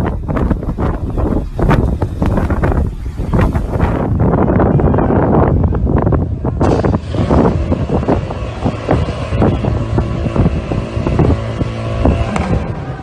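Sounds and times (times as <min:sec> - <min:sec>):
motorboat engine running: 0:00.0 - 0:04.3, 0:05.8 - 0:13.0
wind buffeting microphone: 0:00.0 - 0:13.0.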